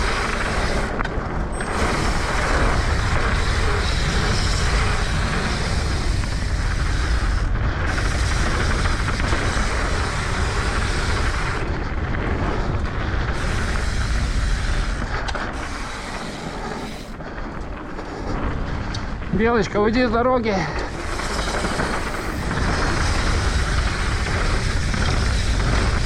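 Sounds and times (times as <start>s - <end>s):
bike tyres rolling on dirt trail: 0.0s - 26.0s
wind on camera microphone: 0.0s - 26.0s.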